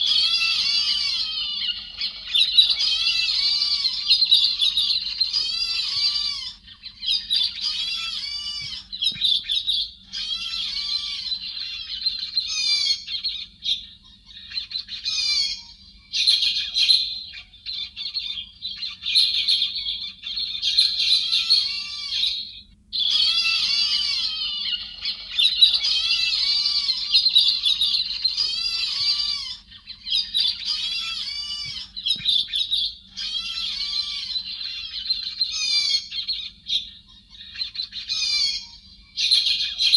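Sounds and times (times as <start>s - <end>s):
bird calling with harsh chattering notes: 0.0s - 39.9s.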